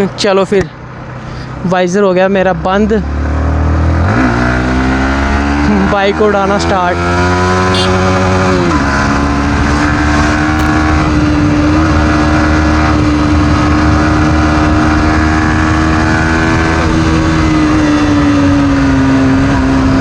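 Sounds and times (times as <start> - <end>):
motorcycle engine at speed: 2.4 - 20.0.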